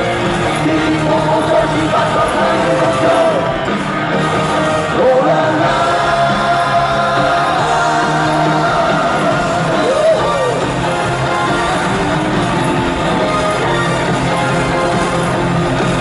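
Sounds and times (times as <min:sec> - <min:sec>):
live pop-rock band playing: 0:00.0 - 0:16.0.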